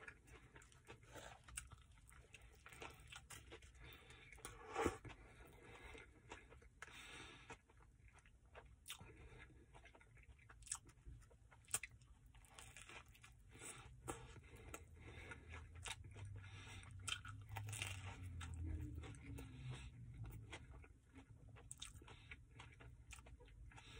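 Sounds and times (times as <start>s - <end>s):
chewing crusty sandwich: 0.0s - 23.9s.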